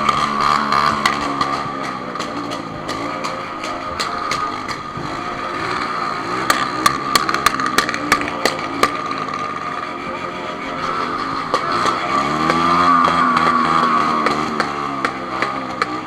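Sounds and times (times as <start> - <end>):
motorcycle engine running: 0.0 - 16.0
sharp engine ticks: 0.0 - 16.0.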